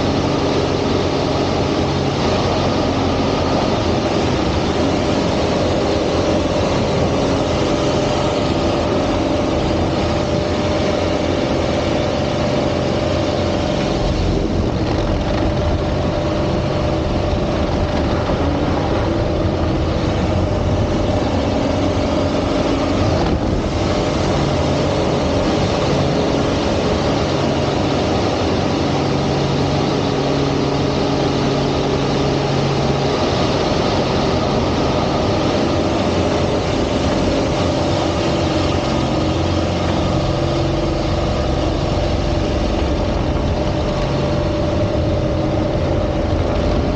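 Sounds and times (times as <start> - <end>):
airplane piston engine and propeller: 0.0 - 46.9.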